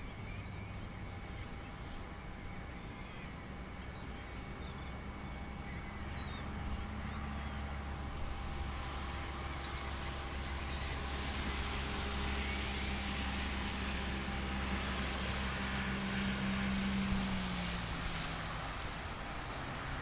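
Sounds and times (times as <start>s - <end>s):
road noise hiss: 0.0s - 20.0s
vehicle engine hum: 3.8s - 20.0s.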